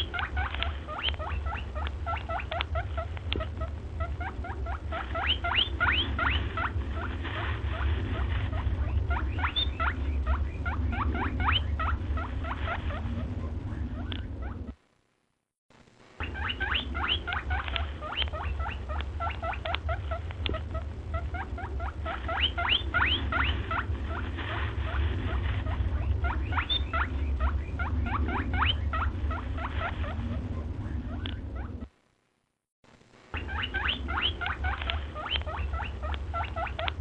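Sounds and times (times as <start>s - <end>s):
small animals chirping: 0.0s - 14.8s, 16.2s - 31.9s, 33.3s - 37.0s
steady low rumble: 0.0s - 37.0s.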